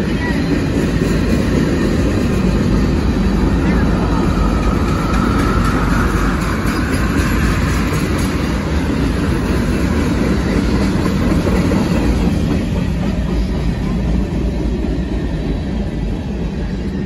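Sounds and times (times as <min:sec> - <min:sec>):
wheels clacking over rail joints: 0:00.0 - 0:15.0
freight train rumbling past: 0:00.0 - 0:17.0.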